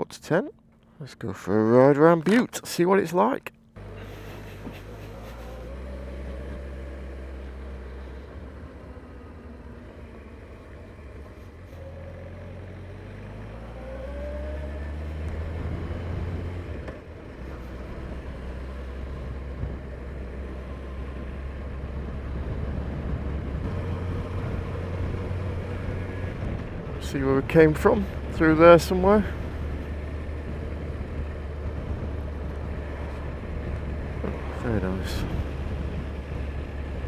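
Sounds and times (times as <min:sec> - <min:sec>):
motorcycle engine accelerating: 0:03.8 - 0:37.0.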